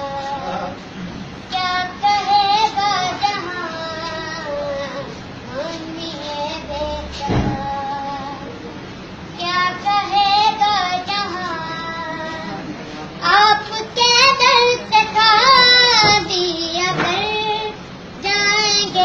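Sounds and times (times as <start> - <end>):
boy singing: 0.0 - 0.8, 1.5 - 8.5, 9.4 - 19.0.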